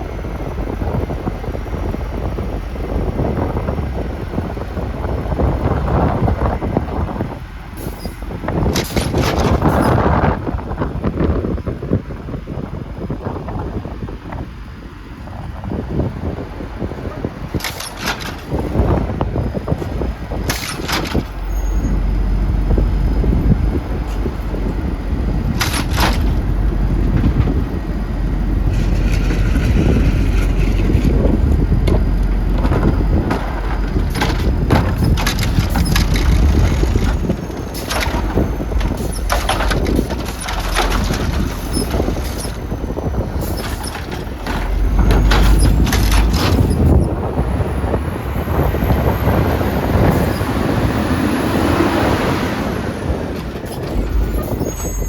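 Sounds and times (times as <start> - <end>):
refuse truck engine running: 0.0 - 55.0
truck clanks and knocks: 0.0 - 55.0
wind buffeting microphone: 0.0 - 55.0.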